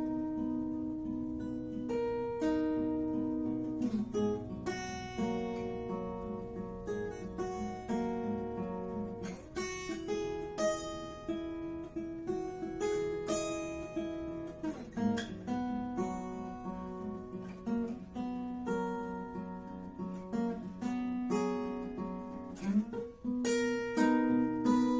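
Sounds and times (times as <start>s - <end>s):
acoustic guitar strummed: 0.0s - 24.9s.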